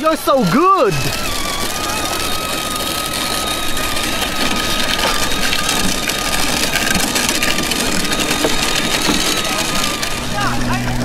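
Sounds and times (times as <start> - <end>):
plastic wheels rolling on concrete: 0.0 - 11.0
thin high tone: 1.0 - 11.0.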